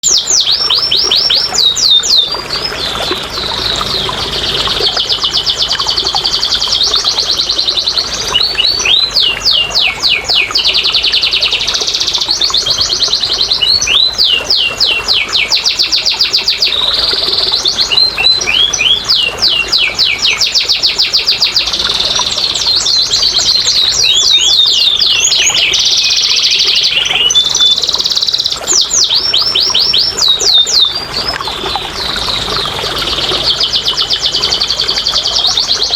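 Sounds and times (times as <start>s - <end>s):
canary singing trills: 0.0s - 35.9s.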